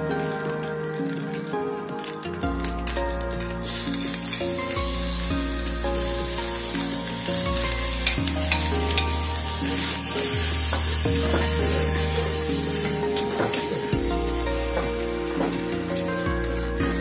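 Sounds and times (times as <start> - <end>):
background music: 0.0 - 17.0
chillies sizzling in hot oil: 0.0 - 17.0.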